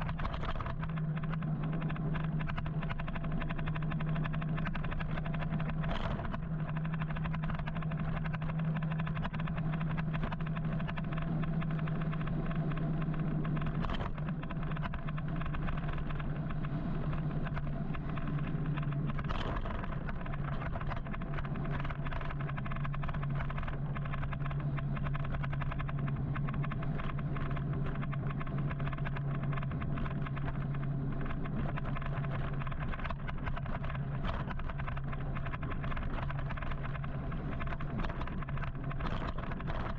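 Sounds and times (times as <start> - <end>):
electric motorcycle hum: 0.0 - 39.9
tire noise on pavement: 0.0 - 39.9.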